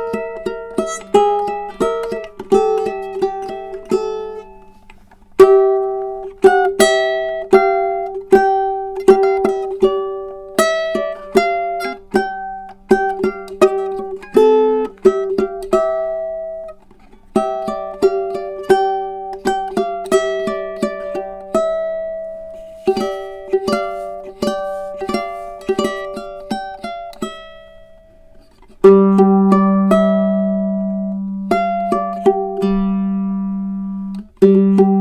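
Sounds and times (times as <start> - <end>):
ukulele plucked notes: 0.0 - 35.0.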